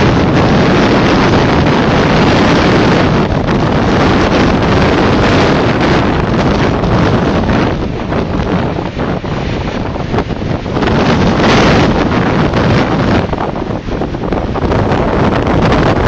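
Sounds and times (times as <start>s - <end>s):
strong wind rushing: 0.0s - 16.0s
waves splashing against wall: 0.0s - 16.0s.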